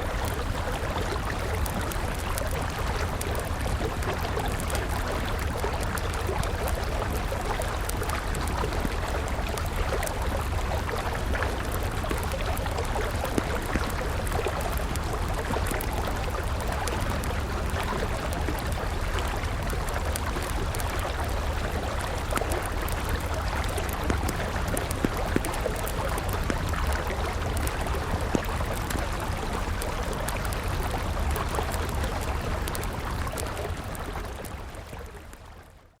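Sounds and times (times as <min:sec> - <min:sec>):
river water flowing: 0:00.0 - 0:35.4
wood fire crackling: 0:00.1 - 0:35.3.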